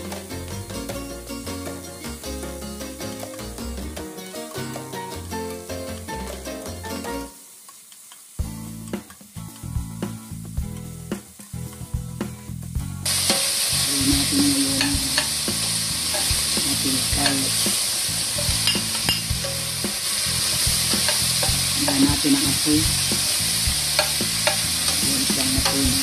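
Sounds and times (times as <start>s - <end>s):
background music: 0.0s - 7.5s, 8.4s - 26.0s
food sizzling in oil: 0.0s - 26.0s.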